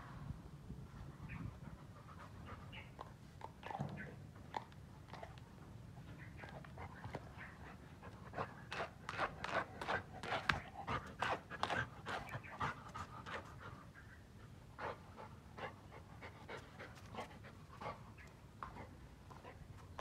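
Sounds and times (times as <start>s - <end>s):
dog panting: 1.3s - 3.8s, 6.4s - 20.0s.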